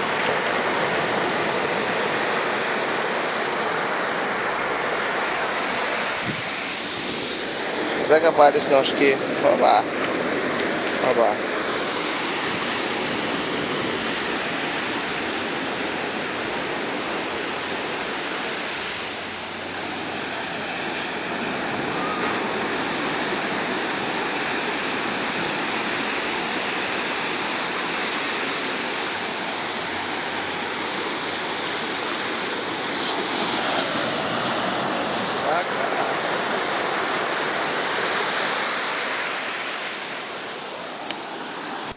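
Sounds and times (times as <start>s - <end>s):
sea surf washing onto shore: 0.0s - 41.9s.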